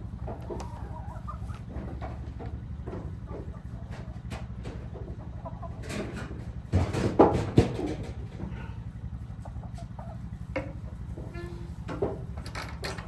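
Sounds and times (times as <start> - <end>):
chickens clucking: 0.0 - 12.6
knocks and rustling: 0.2 - 8.8, 10.5 - 13.0.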